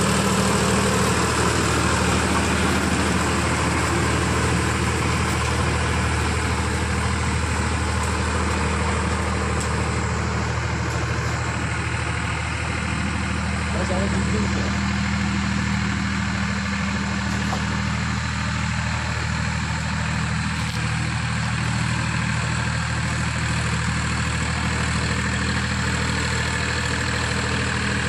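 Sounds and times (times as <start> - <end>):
tiller churning soil: 0.0 - 28.0
tractor diesel engine running: 0.0 - 28.0.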